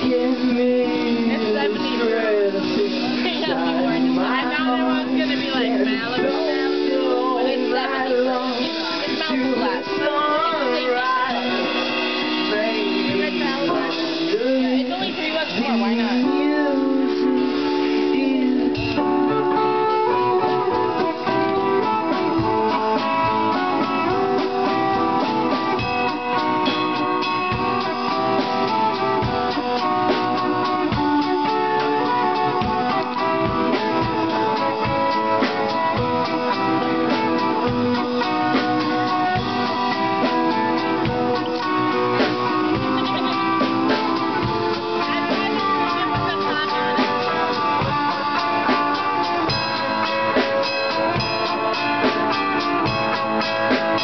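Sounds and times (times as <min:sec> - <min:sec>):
drum kit: 0:00.0 - 0:54.0
electric guitar playing: 0:00.0 - 0:54.0.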